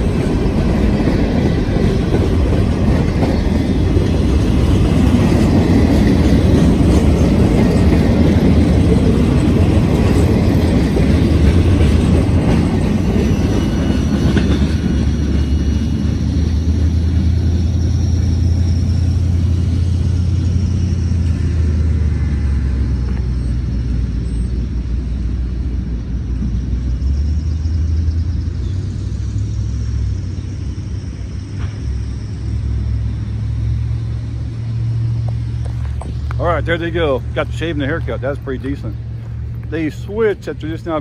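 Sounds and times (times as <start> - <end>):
freight train rumbling on track: 0.0 - 41.0.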